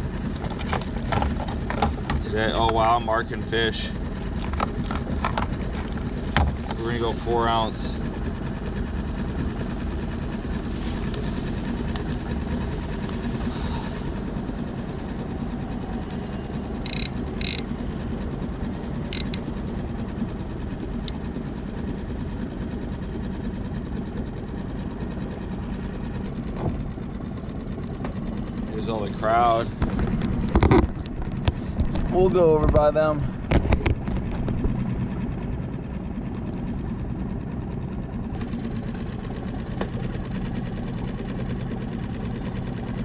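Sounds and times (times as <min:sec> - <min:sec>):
outboard motor humming: 0:00.0 - 0:43.0.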